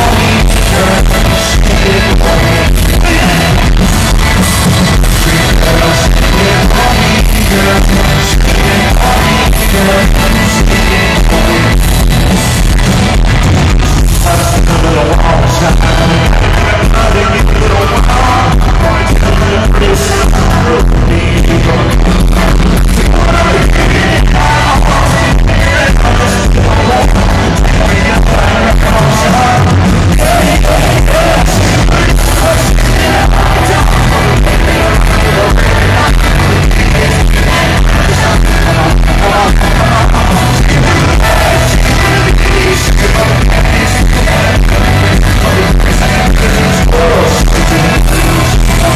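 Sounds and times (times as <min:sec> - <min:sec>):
live band playing: 0:00.0 - 0:48.9
male lead singer: 0:00.0 - 0:48.9.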